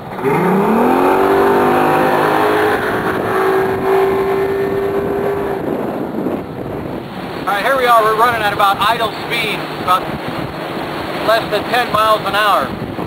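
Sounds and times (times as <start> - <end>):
outboard motor revving: 0.0 - 13.0
water rushing: 0.0 - 13.0
wind noise: 0.0 - 13.0.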